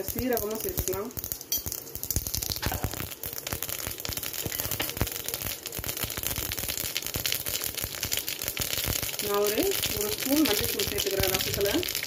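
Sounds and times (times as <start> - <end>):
oil sizzling: 0.0 - 12.0
seeds popping in hot oil: 0.0 - 12.0.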